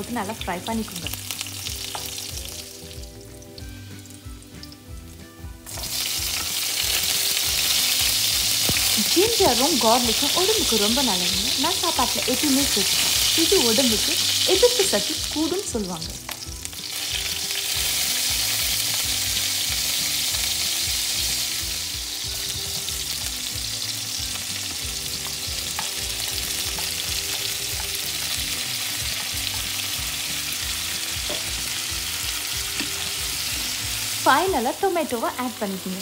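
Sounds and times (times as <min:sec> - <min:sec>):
food sizzling in hot oil: 0:00.0 - 0:36.0.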